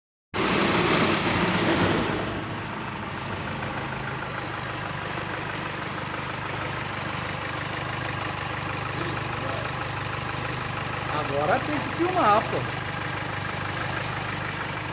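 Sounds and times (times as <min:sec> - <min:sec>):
diesel engine idling: 0:00.4 - 0:14.9.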